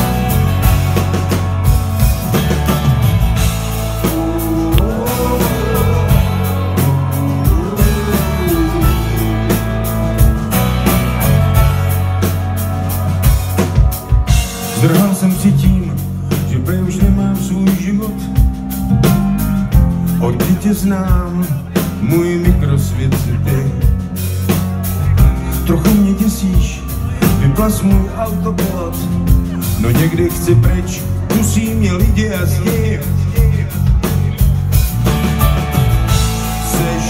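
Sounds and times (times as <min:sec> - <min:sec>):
bass guitar: 0:00.0 - 0:37.0
drum kit: 0:00.0 - 0:37.0
electric and acoustic guitars: 0:00.0 - 0:37.0.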